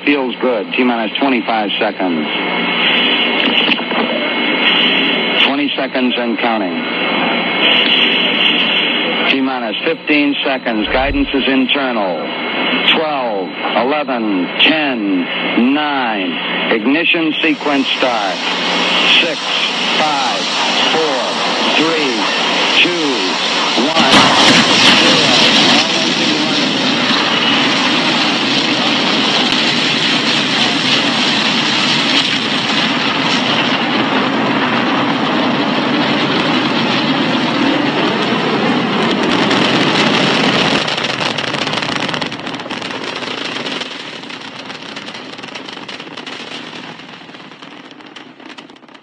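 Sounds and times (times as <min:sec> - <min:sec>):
rocket engine roar: 0:00.0 - 0:49.0.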